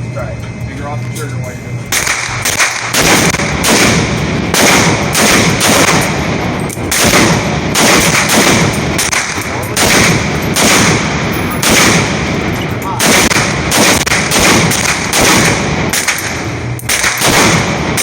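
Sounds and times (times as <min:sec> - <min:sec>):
gunshots: 0:01.9 - 0:18.0.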